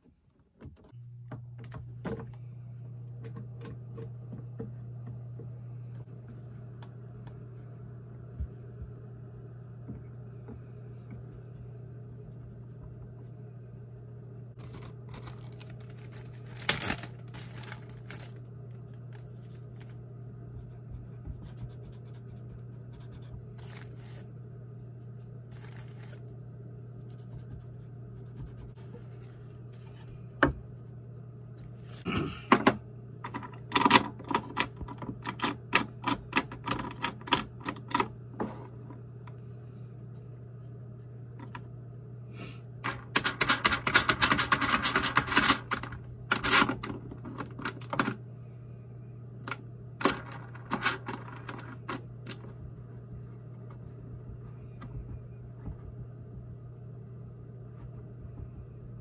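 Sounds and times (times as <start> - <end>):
low hum: 0.2 - 43.5, 44.2 - 59.0.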